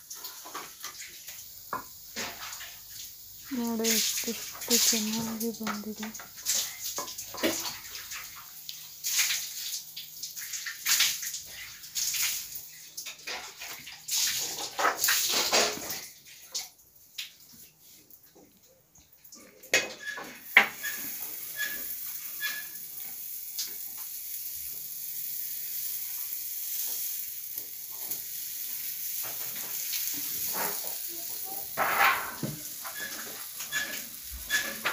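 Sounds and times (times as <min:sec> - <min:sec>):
flatbread sizzling on griddle: 0:00.0 - 0:16.7, 0:19.7 - 0:34.9.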